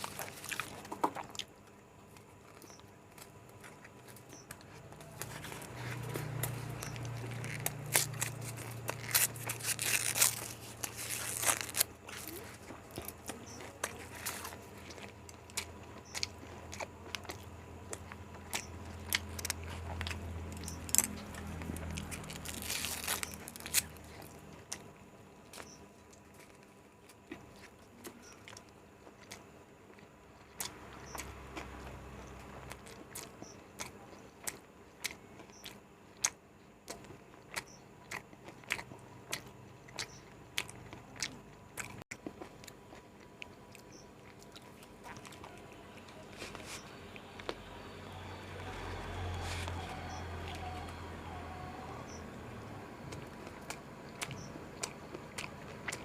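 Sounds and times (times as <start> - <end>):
person chewing with mouth clicks: 0.0 - 47.9, 52.9 - 56.0
soft crunching of food: 0.0 - 56.0.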